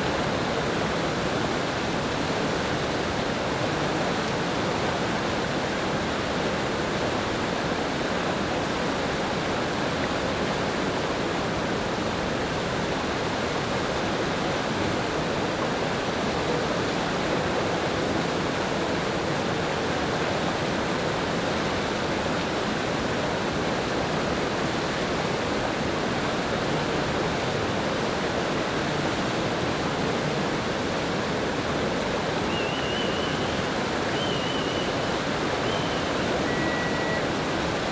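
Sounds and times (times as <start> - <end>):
whitewater rapids roaring: 0.0 - 37.9.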